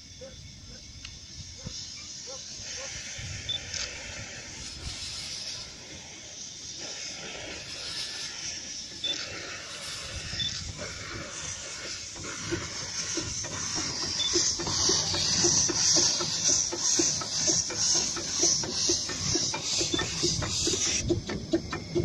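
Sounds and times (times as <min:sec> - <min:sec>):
steam hissing from drain cocks: 0:00.0 - 0:22.0
steam locomotive exhaust chuffs: 0:00.0 - 0:22.0.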